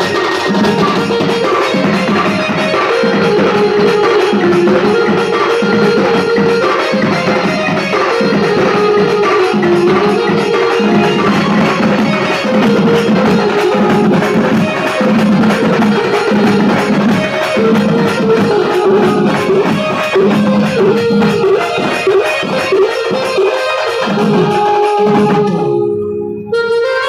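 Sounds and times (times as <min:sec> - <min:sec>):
folk dance song on sound system: 0:00.0 - 0:27.0.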